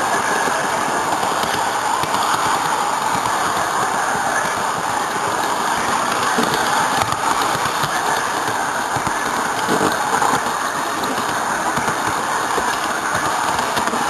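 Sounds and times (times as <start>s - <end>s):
model train wheels whirring: 0.0s - 14.0s.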